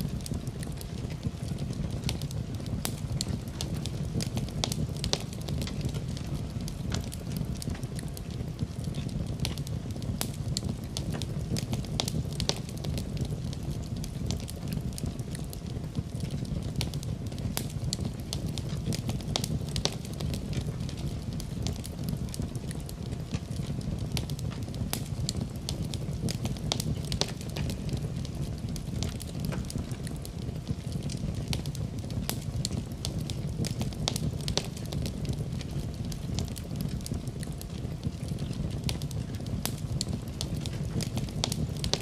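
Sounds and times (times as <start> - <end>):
fire popping and snapping: 0.0 - 42.0
fire rumbling: 0.0 - 42.0.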